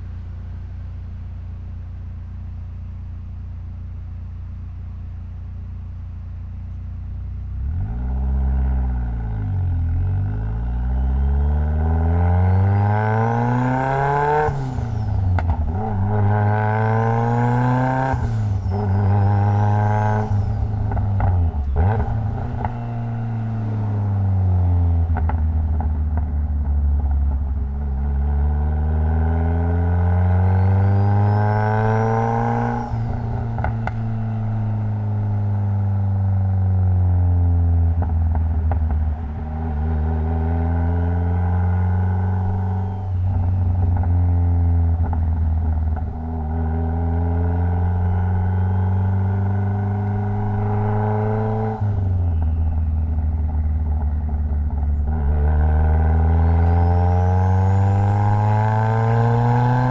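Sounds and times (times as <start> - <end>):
car engine accelerating through gears: 7.6 - 59.9
deep drone: 8.9 - 59.9.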